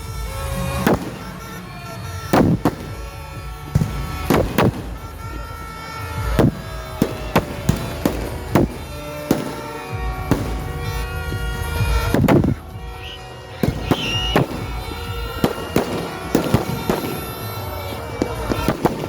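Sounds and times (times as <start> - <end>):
background music: 0.0 - 19.0
fireworks exploding: 0.0 - 19.0.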